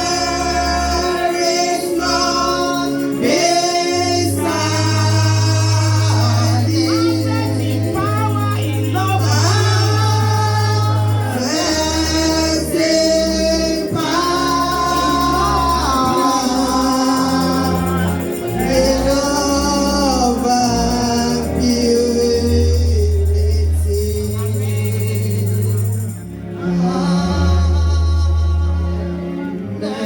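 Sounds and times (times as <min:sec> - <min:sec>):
cymbal or tambourine shimmer: 0:00.0 - 0:26.4
gospel choir singing: 0:00.0 - 0:30.0
sustained bass notes: 0:00.0 - 0:30.0.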